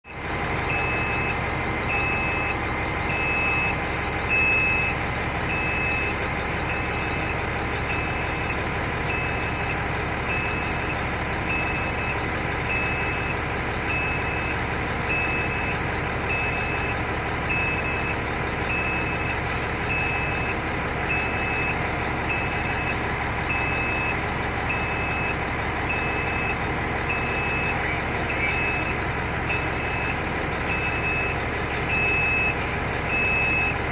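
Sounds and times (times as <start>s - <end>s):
diesel engine running: 0.0s - 33.9s
short electronic beep: 0.7s - 33.8s.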